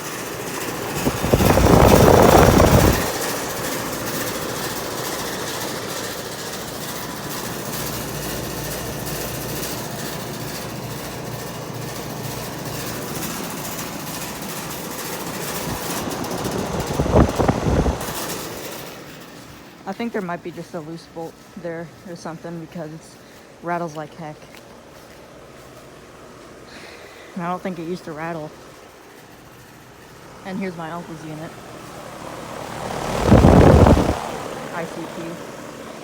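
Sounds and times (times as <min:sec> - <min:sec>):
air conditioner unit rattling: 0:00.0 - 0:21.8, 0:24.8 - 0:36.0.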